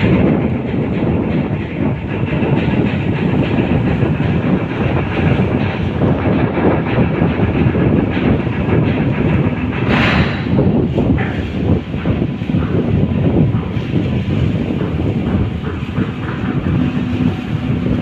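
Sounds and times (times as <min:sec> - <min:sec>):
ferry engines rumbling: 0:00.0 - 0:18.0
propeller wash churning: 0:00.0 - 0:18.0.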